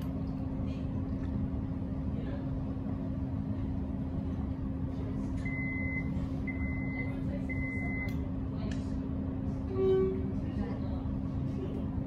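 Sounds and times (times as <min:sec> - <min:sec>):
train carriage rumble and hum: 0:00.0 - 0:12.0.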